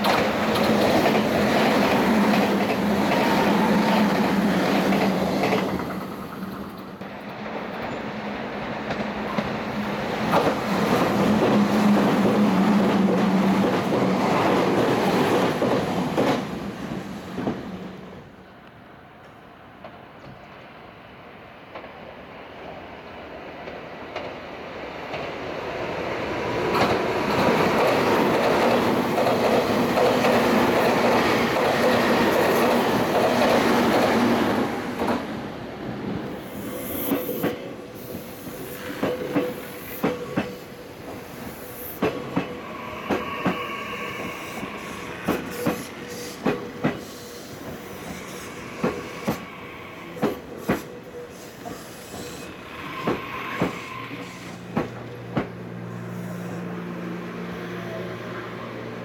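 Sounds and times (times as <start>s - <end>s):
train rushing past: 0.0s - 18.6s, 19.6s - 59.0s
steady train hum: 0.0s - 59.0s.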